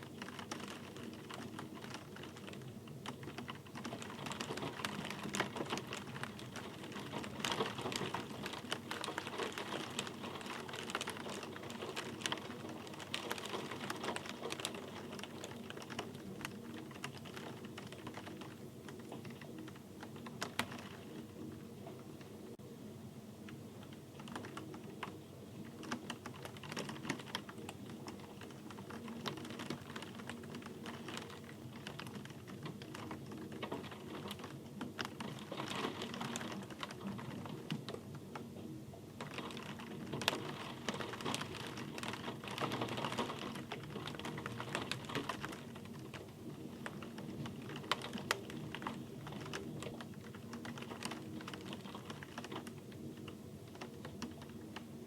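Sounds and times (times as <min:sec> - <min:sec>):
raindrops tapping on hard surface: 0:00.0 - 0:22.0, 0:23.5 - 0:38.5, 0:39.2 - 0:54.9.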